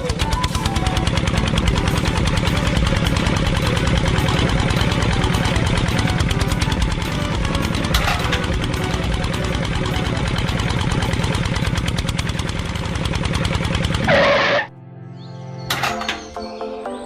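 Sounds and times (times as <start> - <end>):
small engine running: 0.0 - 14.7.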